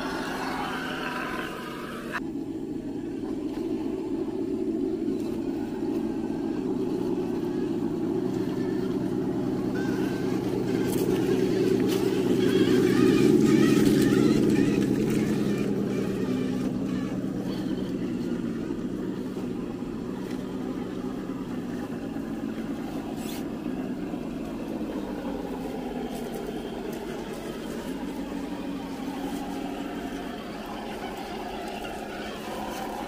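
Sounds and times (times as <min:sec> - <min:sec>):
rc truck electric motors whining: 0:00.0 - 0:02.2, 0:04.8 - 0:33.0.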